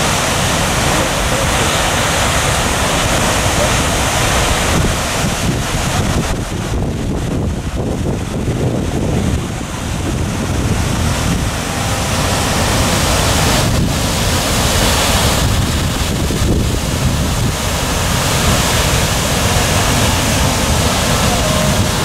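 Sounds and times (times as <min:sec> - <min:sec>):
waterfall roaring: 0:00.0 - 0:22.0
wind buffeting microphone: 0:00.0 - 0:22.0.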